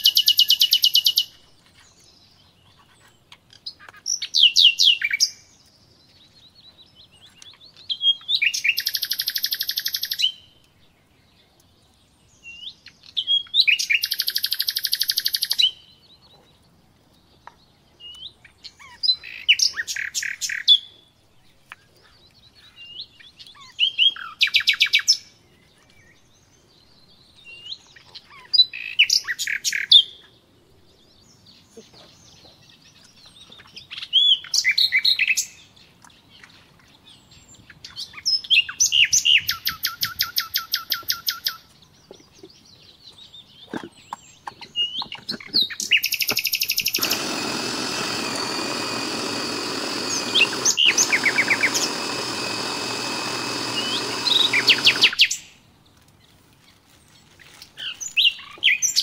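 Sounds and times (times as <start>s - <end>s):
small bird singing trills: 0.0s - 55.6s.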